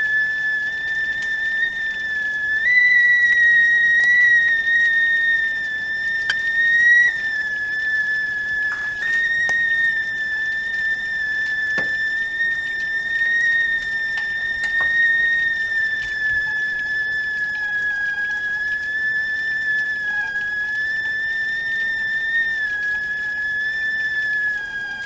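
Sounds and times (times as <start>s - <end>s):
tea kettle whistling: 0.0s - 25.0s.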